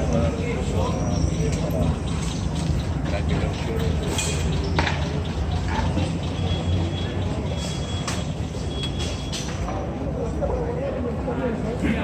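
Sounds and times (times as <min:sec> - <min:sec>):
faint voices: 0:00.0 - 0:12.0
low traffic rumble: 0:00.0 - 0:12.0.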